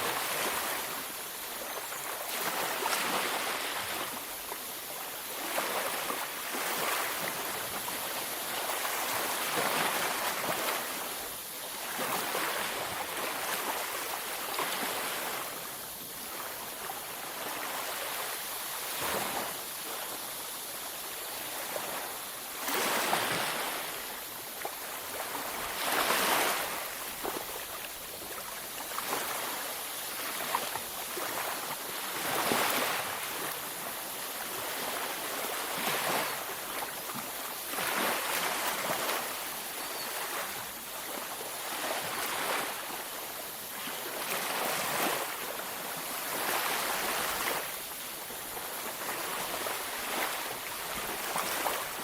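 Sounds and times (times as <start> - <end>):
ocean waves on a beach: 0.0 - 52.0.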